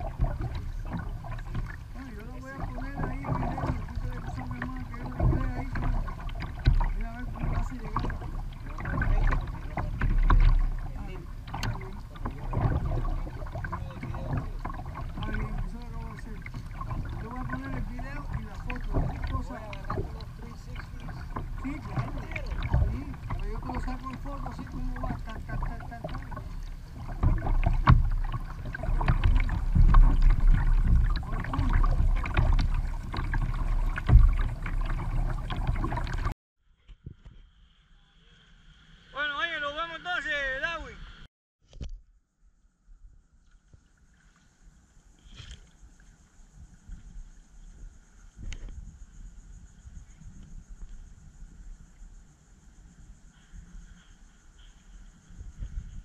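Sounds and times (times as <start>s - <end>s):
water lapping against hull: 0.0s - 36.4s, 43.3s - 56.0s
paddle strokes in water: 0.0s - 37.5s, 43.3s - 56.0s
wind rumbling on microphone: 0.0s - 39.1s, 44.9s - 56.0s.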